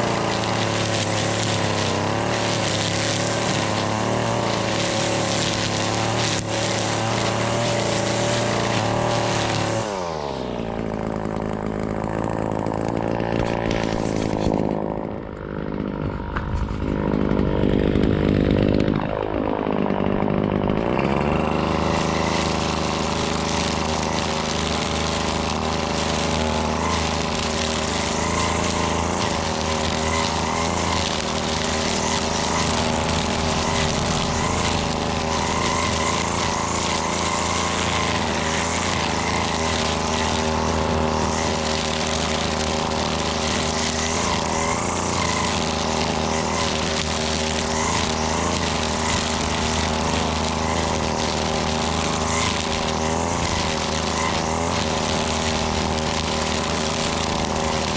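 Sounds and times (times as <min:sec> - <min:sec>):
string trimmer running: 0:00.0 - 0:57.9.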